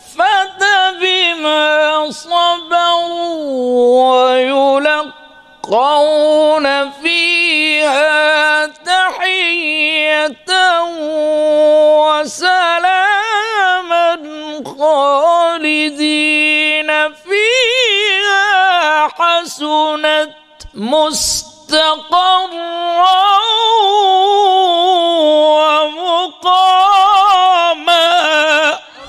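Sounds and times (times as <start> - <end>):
man reciting melodic chant: 0.0 - 29.0.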